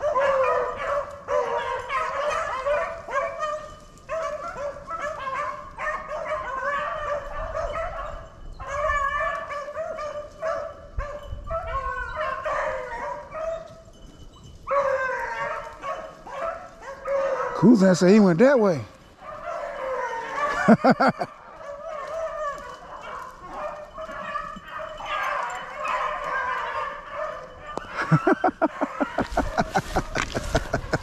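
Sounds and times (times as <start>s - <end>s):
hounds baying: 0.0s - 31.0s.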